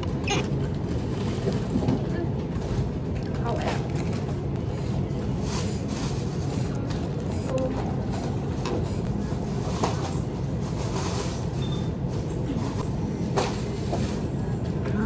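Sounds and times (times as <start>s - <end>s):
low rumble of vehicle noise: 0.0s - 15.0s.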